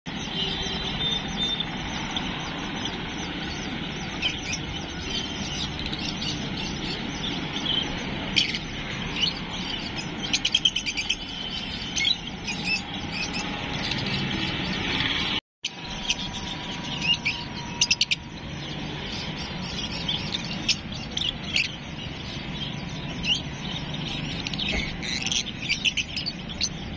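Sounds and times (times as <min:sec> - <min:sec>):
lovebirds chirping: 0:00.1 - 0:26.9.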